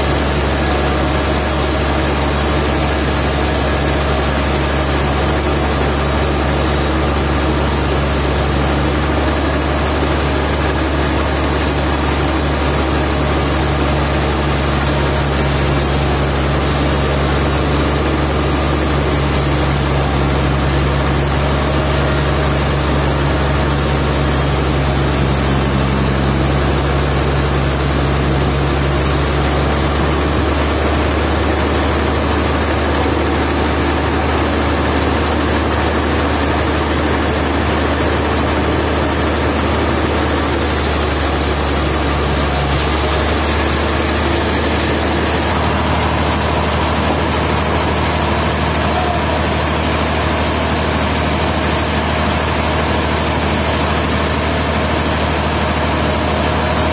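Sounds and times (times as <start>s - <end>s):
low engine drone: 0.0s - 56.9s.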